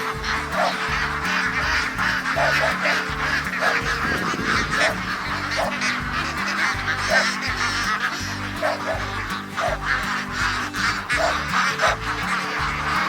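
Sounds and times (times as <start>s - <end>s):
flock of ducks quacking: 0.0s - 13.0s.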